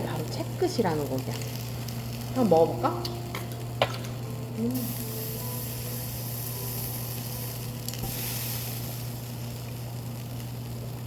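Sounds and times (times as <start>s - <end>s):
low steady hum: 0.0s - 11.0s
meat sizzling on a grill: 0.0s - 11.0s.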